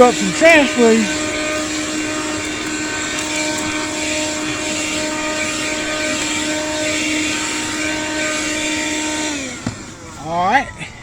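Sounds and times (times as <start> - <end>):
handheld vacuum cleaner running: 0.0 - 11.0.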